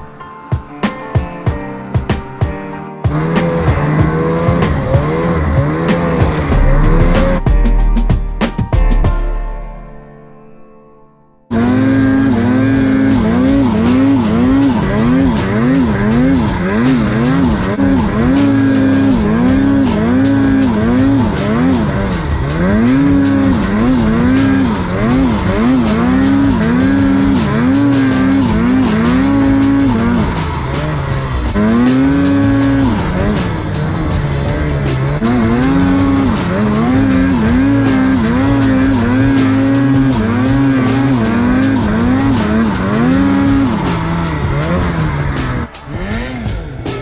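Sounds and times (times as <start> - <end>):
snowmobile engine running hard: 3.1 - 7.5, 11.5 - 47.0.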